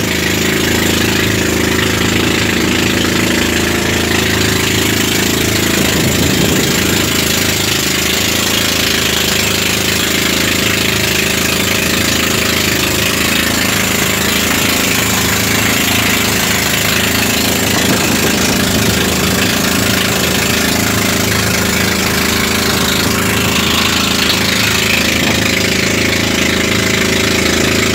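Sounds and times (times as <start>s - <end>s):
boat engine drone: 0.0s - 27.9s.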